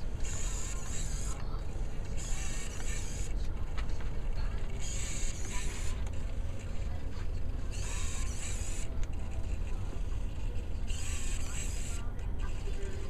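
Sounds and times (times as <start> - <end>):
servos whirring: 0.0 - 13.0
steady low hum: 0.0 - 13.0.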